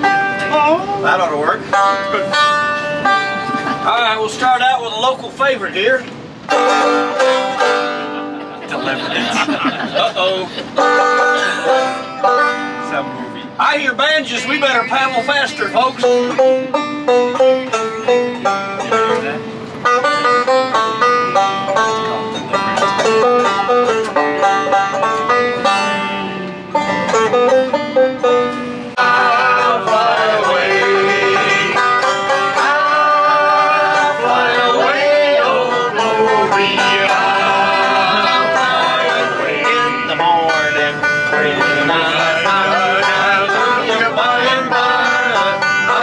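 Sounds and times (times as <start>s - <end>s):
banjo picking: 0.0s - 46.0s.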